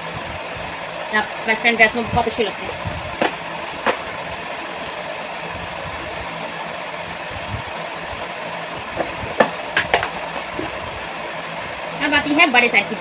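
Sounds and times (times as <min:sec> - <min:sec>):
machine drone with hiss: 0:00.0 - 0:13.0.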